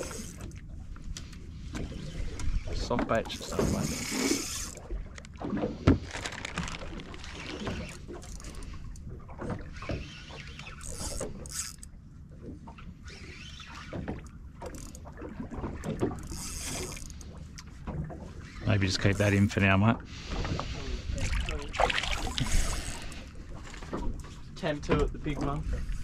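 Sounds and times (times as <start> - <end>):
water slapping boat hull: 0.0 - 26.0.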